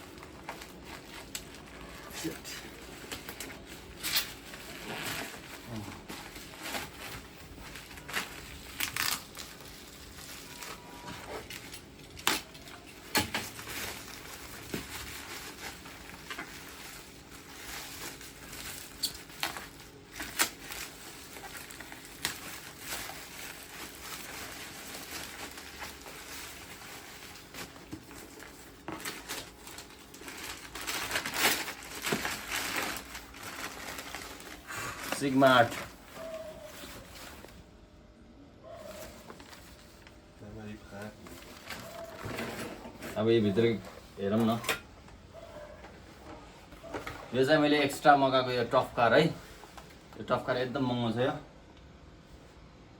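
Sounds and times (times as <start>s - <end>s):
cardboard crinkling and rustling: 0.0s - 37.8s, 38.8s - 45.2s.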